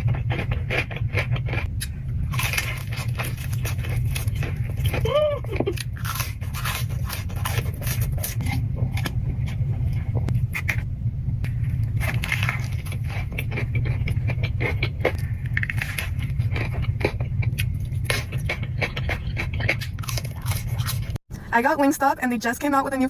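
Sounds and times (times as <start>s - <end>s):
chewing crunchy food: 0.0s - 10.8s, 11.4s - 21.2s
steady low hum: 0.0s - 23.0s.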